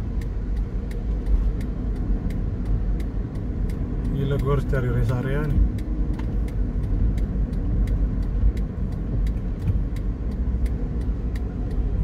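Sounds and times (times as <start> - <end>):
sharp ticking: 0.0 - 12.0
tyres and engine rumble: 0.0 - 12.0.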